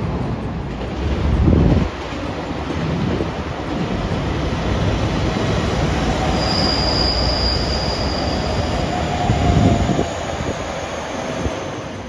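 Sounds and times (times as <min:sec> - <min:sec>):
train rumbling past: 0:00.0 - 0:12.0
wheels squealing on rail: 0:00.9 - 0:12.0.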